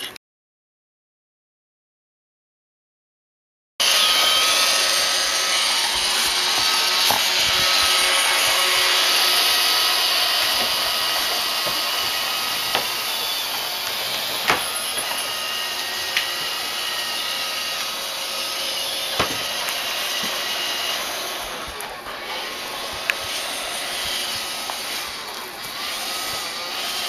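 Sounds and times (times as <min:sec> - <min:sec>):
vacuum cleaner whine: 0:03.8 - 0:27.0.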